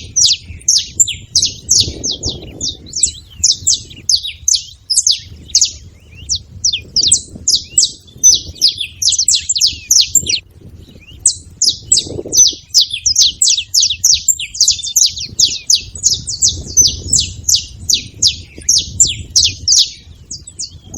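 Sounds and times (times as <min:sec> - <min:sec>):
finches chirping: 0:00.0 - 0:20.9.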